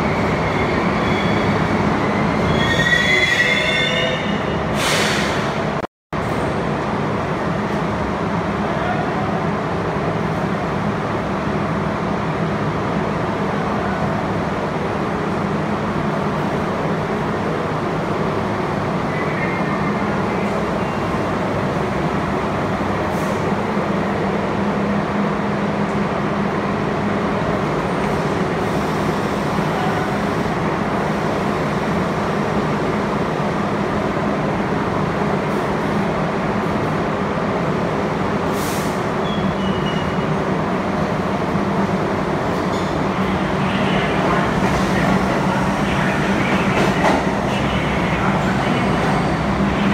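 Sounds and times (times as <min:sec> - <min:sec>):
subway train humming: 0:00.0 - 0:49.9.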